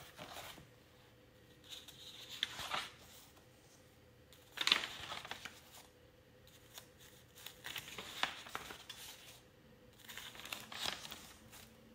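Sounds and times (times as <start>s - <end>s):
paper pages rustling: 0.0s - 0.7s, 1.5s - 5.9s, 6.5s - 11.9s.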